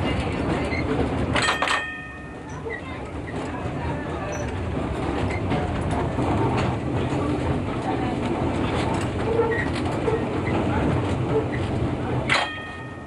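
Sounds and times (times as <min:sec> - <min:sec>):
tram rumble: 0:00.0 - 0:13.0
wheels clicking on rails: 0:00.0 - 0:13.0.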